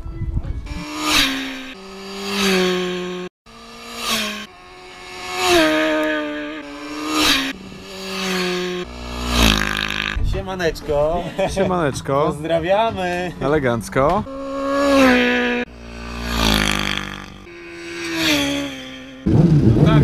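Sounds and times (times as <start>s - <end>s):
racing motorcycles passing: 0.6s - 20.0s.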